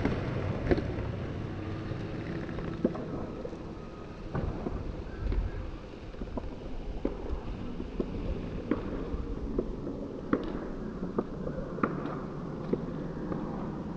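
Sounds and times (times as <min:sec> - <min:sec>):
skateboard wheels rolling on pavement: 0:00.0 - 0:13.9.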